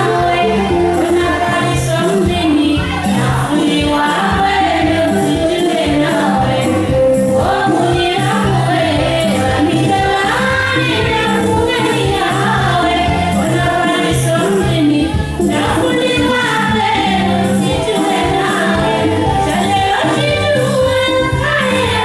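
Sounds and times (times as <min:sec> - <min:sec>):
group of women singing along: 0:00.0 - 0:22.0
music with percussion beat: 0:00.0 - 0:22.0
women singing into microphones: 0:00.0 - 0:22.0.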